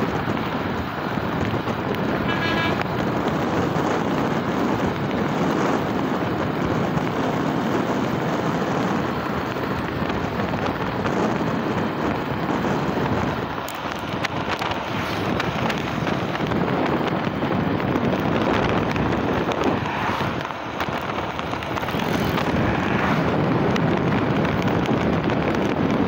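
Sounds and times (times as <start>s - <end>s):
motorcycle engine: 0.0s - 26.0s
wind noise: 0.0s - 26.0s.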